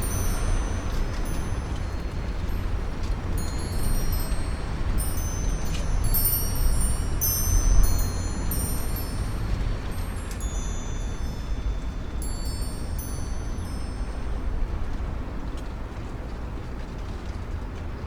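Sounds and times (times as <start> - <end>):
metal wind chimes ringing: 0.0 - 15.5
low rumble of wind: 0.0 - 18.0.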